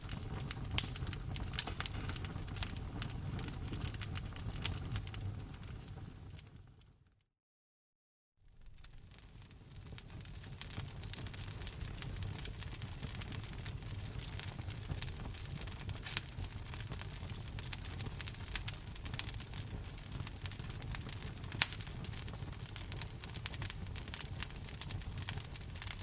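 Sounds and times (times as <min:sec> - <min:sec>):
wood fire crackling: 0:00.0 - 0:06.9, 0:08.5 - 0:26.0
low rumble of flames: 0:00.0 - 0:07.0, 0:08.5 - 0:26.0.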